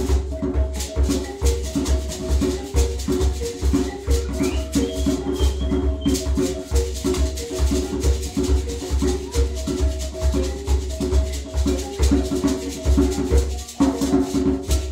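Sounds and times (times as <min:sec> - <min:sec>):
gourd shakers rattling: 0:00.0 - 0:14.9
hand drum beats: 0:00.0 - 0:14.9
mbira notes: 0:00.0 - 0:14.9.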